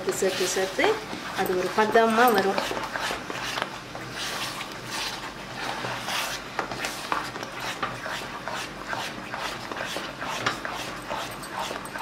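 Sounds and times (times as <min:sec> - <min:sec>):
spatula scraping sticky paste: 0:01.5 - 0:12.0.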